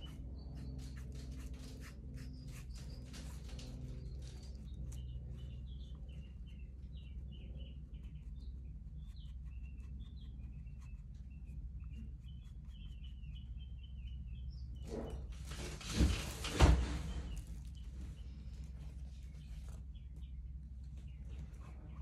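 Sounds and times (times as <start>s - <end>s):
small bird chirping: 0.0s - 15.6s, 16.8s - 22.0s
low hum: 0.0s - 22.0s.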